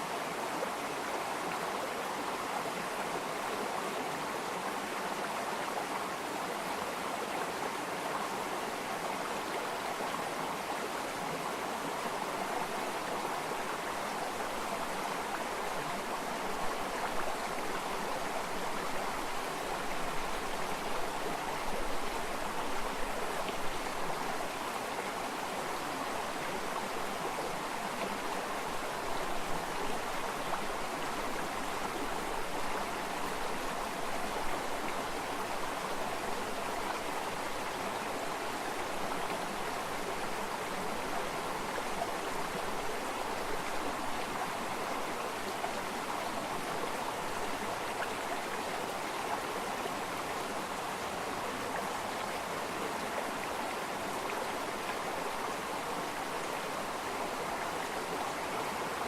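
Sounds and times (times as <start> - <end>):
stream water burbling: 0.0 - 59.0.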